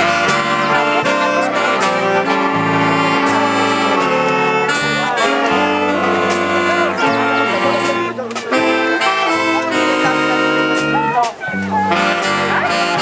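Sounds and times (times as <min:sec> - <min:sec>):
wind band playing: 0:00.0 - 0:13.0.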